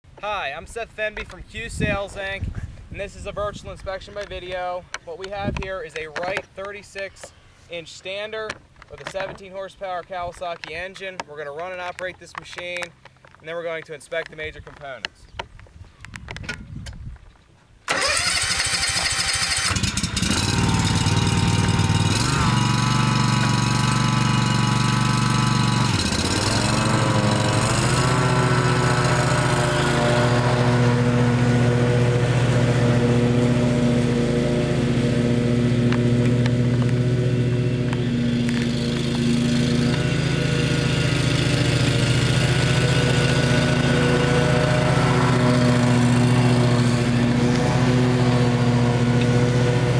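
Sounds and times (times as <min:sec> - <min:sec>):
mower engine starting and running: 0:03.8 - 0:12.9, 0:17.9 - 0:49.9.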